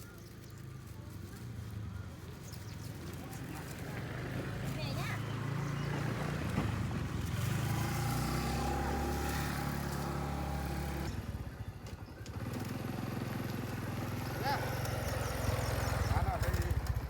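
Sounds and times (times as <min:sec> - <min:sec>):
motorbike engine running: 0:02.6 - 0:17.0.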